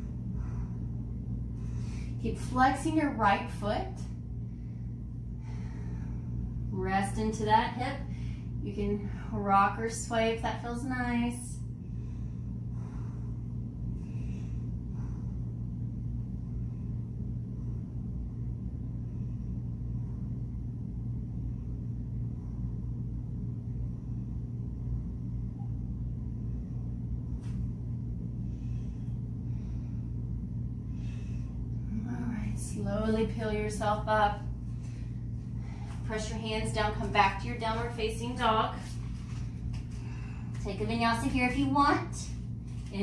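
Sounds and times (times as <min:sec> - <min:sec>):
low background hum: 0:00.0 - 0:43.0.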